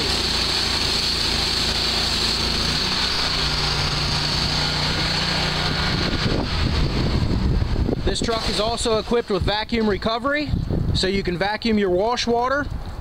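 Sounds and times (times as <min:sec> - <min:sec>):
high-pressure water jet hissing: 0:00.0 - 0:10.4
engine and pump drone: 0:00.0 - 0:13.0.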